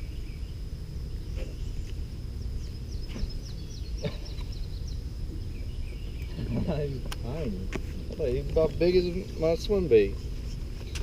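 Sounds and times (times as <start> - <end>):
bird singing slurred notes: 0.0 - 7.6, 8.2 - 11.0.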